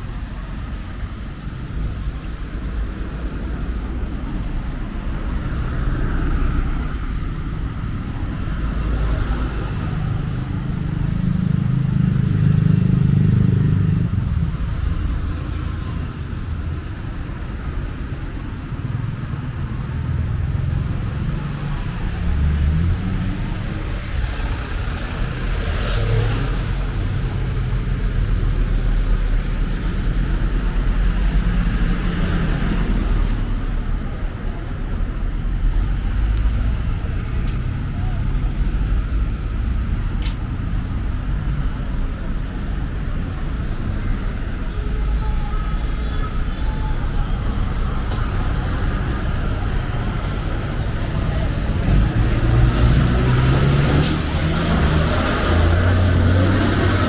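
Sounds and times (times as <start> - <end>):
cars passing close by: 0.0 - 45.0, 45.8 - 57.0.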